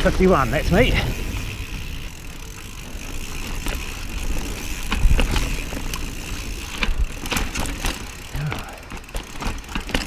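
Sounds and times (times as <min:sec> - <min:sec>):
bike knocking and rattling: 0:00.0 - 0:10.0
tyres rumbling on dirt: 0:00.0 - 0:10.0.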